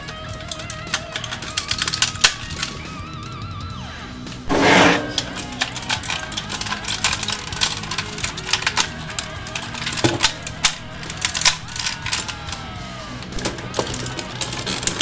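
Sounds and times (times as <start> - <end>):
plastic toy parts clicking: 0.0 - 3.0, 4.4 - 15.0
background music: 0.0 - 15.0.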